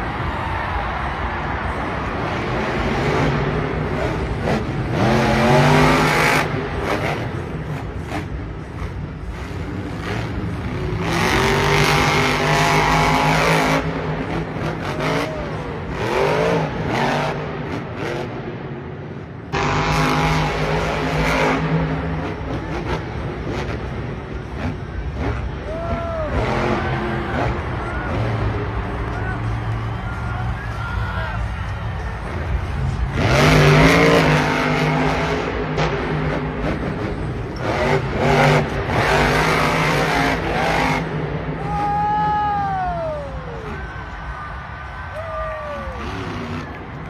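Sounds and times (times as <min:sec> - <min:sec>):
monster truck engine revving: 0:01.0 - 0:30.8, 0:31.4 - 0:43.8, 0:45.7 - 0:47.0.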